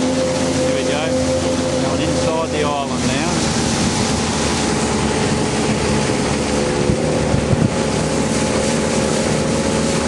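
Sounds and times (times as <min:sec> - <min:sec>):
boat motor running: 0:00.0 - 0:10.0
water wash: 0:00.0 - 0:10.0
wind: 0:00.0 - 0:10.0.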